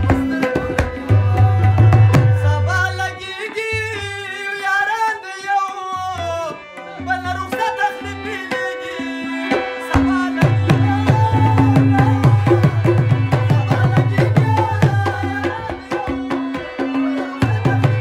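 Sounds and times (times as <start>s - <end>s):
harmonium held notes: 0.0s - 18.0s
tabla playing: 0.0s - 18.0s.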